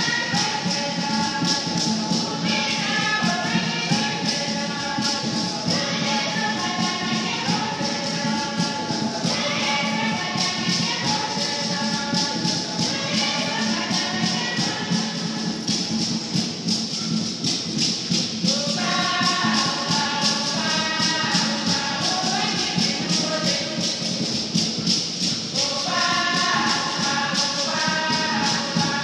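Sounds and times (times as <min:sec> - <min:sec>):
rattling percussion beat: 0:00.0 - 0:29.0
women's choir singing: 0:00.0 - 0:29.0.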